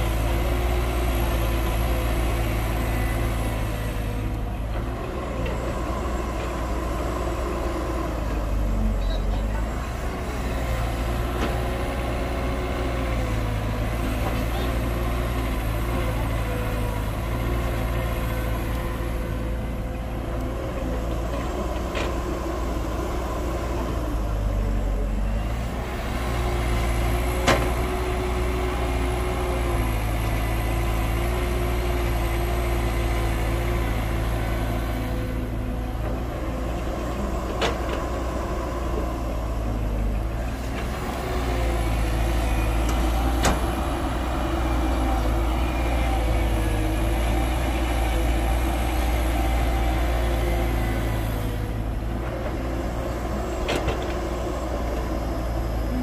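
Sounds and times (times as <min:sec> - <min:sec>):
diesel excavator running: 0:00.0 - 0:56.0.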